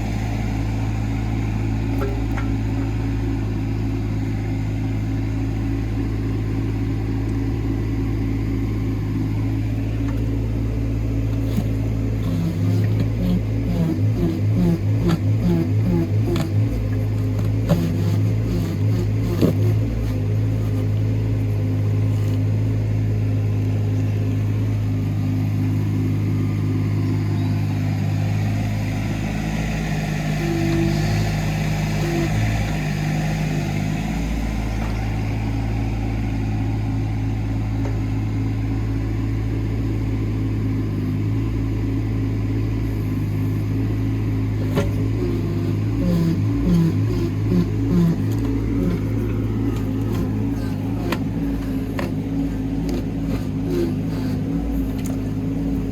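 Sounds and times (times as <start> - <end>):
excavator diesel engine running: 0.0 - 55.9
hydraulic whine: 0.0 - 55.9.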